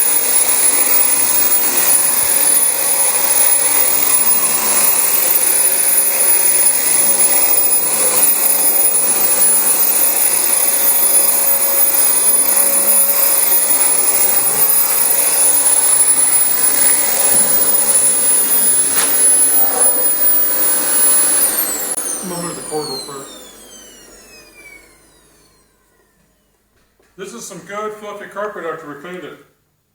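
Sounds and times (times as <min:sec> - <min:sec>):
vacuum cleaner on carpet: 0:00.0 - 0:26.6.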